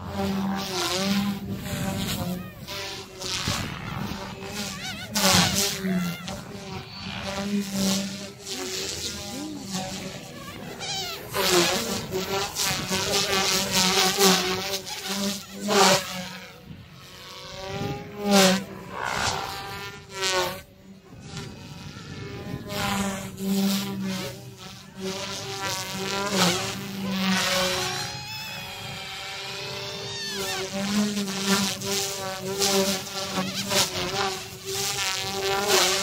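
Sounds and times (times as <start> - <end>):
rc helicopter buzzing whine: 0.0 - 36.0.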